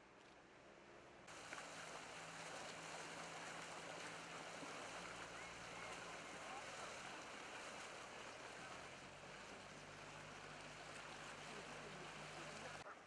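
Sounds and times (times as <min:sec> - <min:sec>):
low engine hum: 0:01.2 - 0:12.9
water wash: 0:01.3 - 0:12.9.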